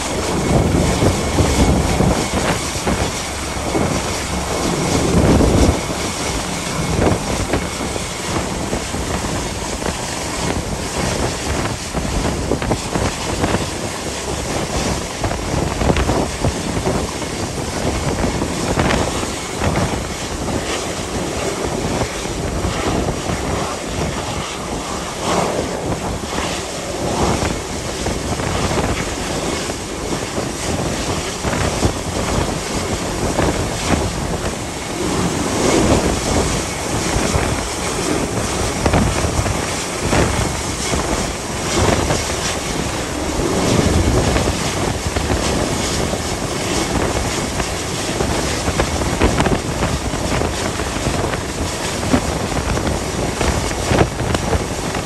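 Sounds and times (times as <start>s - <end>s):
rushing wind: 0.0s - 55.0s
sea: 0.0s - 55.0s
wind buffeting microphone: 0.0s - 55.0s.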